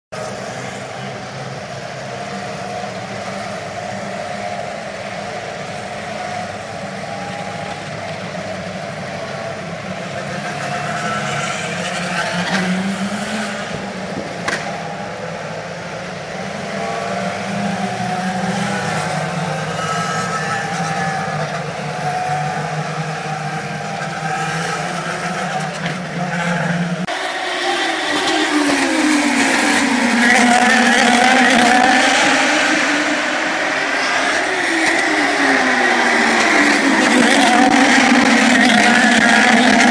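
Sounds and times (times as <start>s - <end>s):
race car engines droning: 0.1s - 39.9s.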